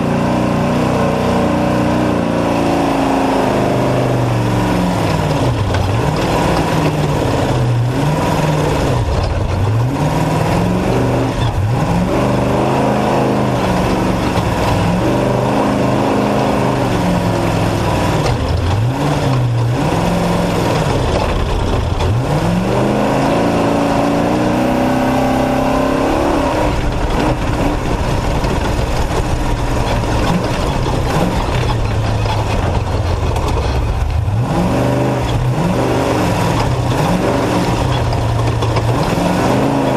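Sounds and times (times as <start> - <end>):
truck engine revving: 0.0 - 39.9
wind and road noise: 0.0 - 39.9.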